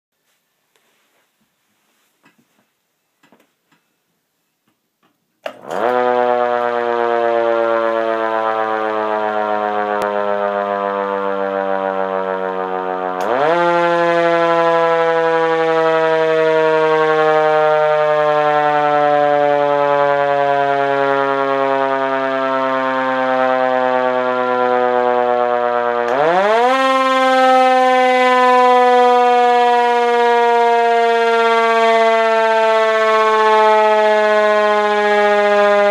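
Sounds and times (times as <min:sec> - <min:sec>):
mechanical siren winding up and down: 0:05.4 - 0:35.9.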